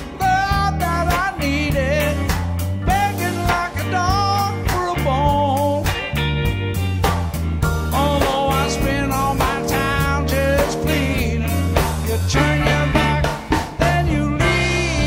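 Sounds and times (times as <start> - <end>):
bass guitar: 0.0 - 15.0
drum kit: 0.0 - 15.0
hammond organ: 0.0 - 15.0.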